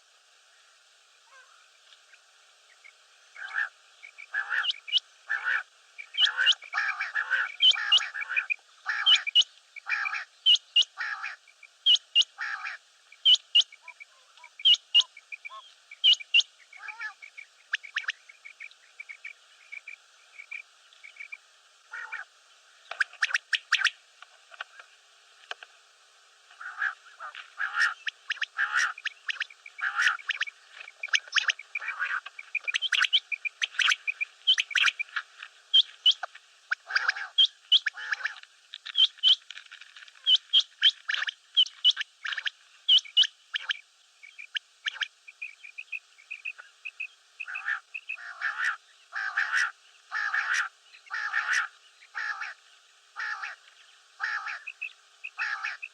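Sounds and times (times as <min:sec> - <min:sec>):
quail calling: 0:03.4 - 0:22.3, 0:22.9 - 0:24.0, 0:26.6 - 0:39.4, 0:40.2 - 0:52.6, 0:53.2 - 0:53.6, 0:54.2 - 0:55.9.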